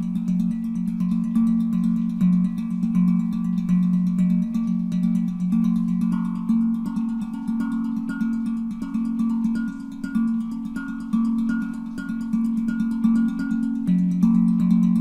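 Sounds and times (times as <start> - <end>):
handpan played by hand: 0.0 - 15.0.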